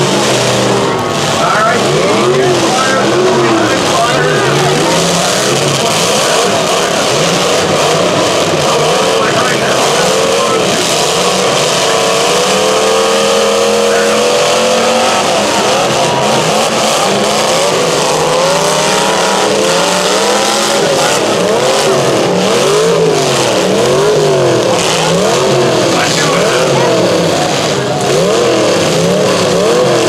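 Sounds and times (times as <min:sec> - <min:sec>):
car engines revving: 0:00.0 - 0:30.0
loud steady din: 0:00.0 - 0:30.0.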